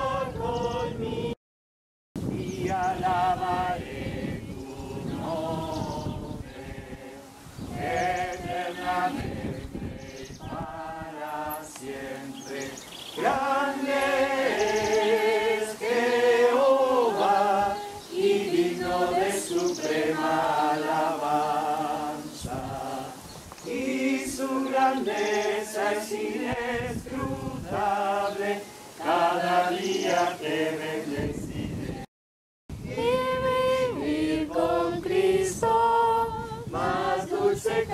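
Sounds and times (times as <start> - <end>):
group singing hymn unaccompanied: 0.0 - 1.4, 2.2 - 32.1, 32.8 - 37.9.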